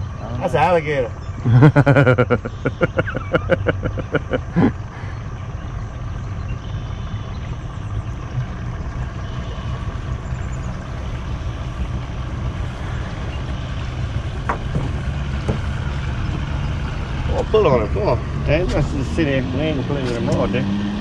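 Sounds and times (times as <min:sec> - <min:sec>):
outboard motor running: 0:00.0 - 0:20.6.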